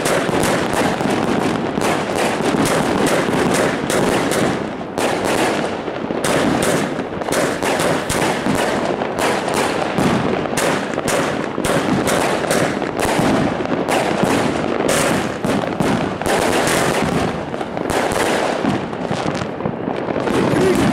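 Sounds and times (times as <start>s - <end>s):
firework bangs and crackles: 0.0s - 20.9s.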